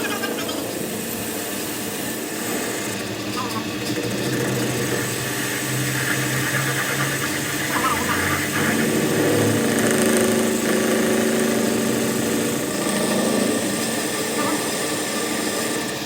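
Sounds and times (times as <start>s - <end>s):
machine motor humming: 0.0s - 16.0s.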